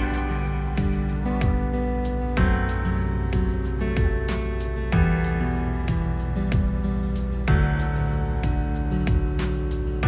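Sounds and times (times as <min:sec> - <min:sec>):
gentle background music: 0:00.0 - 0:10.0.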